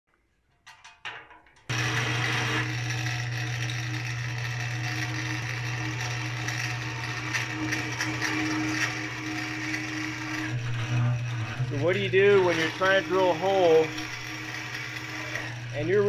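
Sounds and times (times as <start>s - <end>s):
drill bit cutting metal: 1.7s - 16.0s
drill press motor hum: 1.7s - 16.0s.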